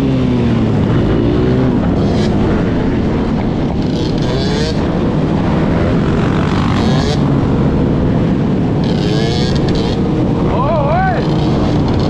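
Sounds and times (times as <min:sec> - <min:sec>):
dirt bike engines revving: 0:00.0 - 0:12.0
high engine whine: 0:00.0 - 0:12.0
wind noise on microphone: 0:00.0 - 0:12.0.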